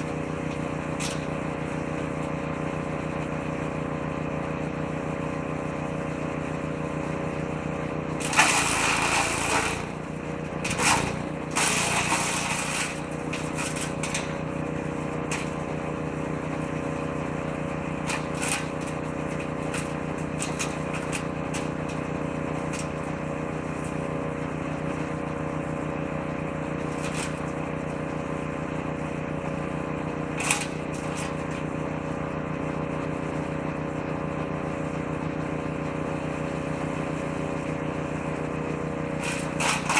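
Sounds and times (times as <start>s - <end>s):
shredder grinding branches: 0.0s - 39.9s
woodchipper engine running: 0.0s - 39.9s.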